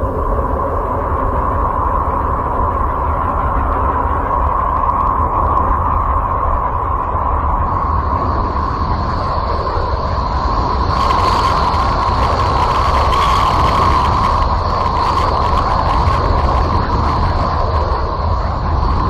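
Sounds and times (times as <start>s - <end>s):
rumbling noise drone: 0.0s - 19.0s
whistling hum: 0.0s - 19.0s.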